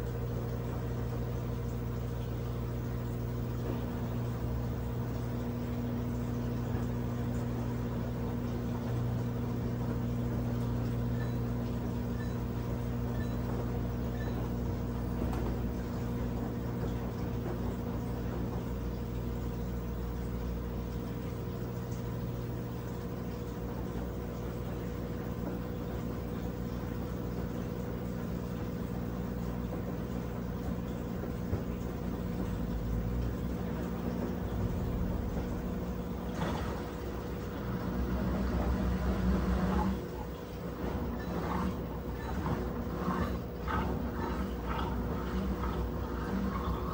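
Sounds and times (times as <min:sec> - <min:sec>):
washing machine motor humming: 0:00.0 - 0:46.9.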